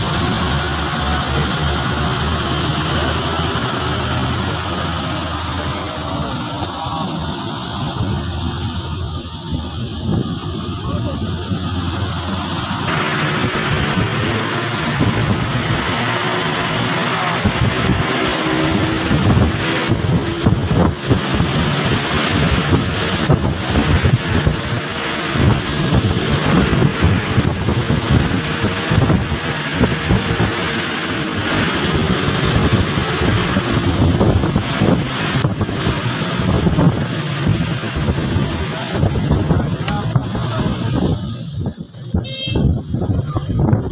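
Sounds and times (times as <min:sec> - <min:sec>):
moving vehicle road noise: 0:00.0 - 0:43.9
wind buffeting microphone: 0:00.0 - 0:43.9.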